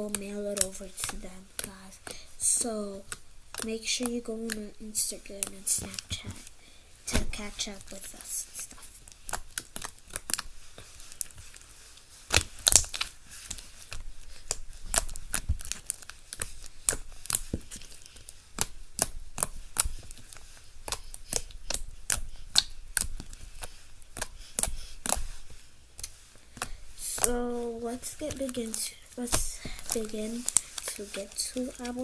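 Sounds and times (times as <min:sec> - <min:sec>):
slime squeezed crackling and popping: 0:00.0 - 0:32.0.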